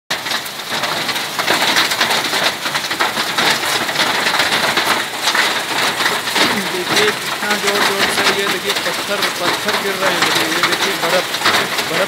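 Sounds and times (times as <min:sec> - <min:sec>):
hailstones pelting ground: 0:00.1 - 0:12.0.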